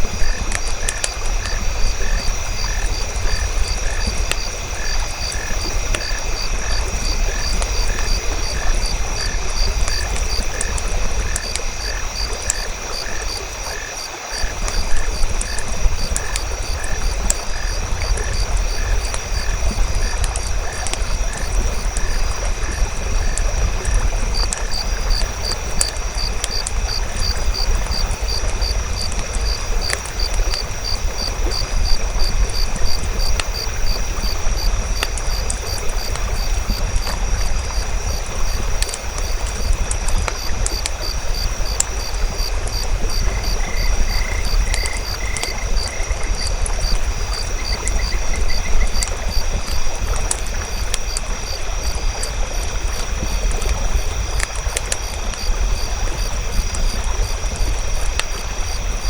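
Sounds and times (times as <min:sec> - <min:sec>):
campfire crackling: 0:00.0 - 0:59.0
frogs croaking: 0:00.0 - 0:59.0
insects trilling: 0:00.0 - 0:59.0.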